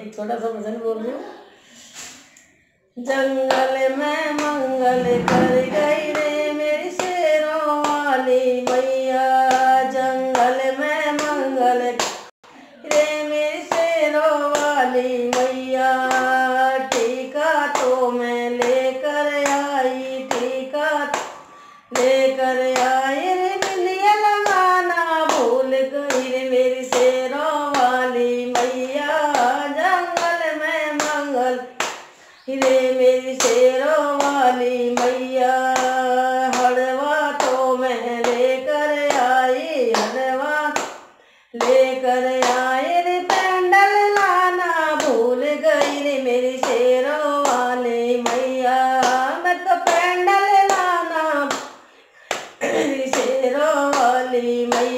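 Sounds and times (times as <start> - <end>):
woman singing devotional song: 0.0 - 54.9
hand claps: 7.8 - 12.3, 12.9 - 54.9.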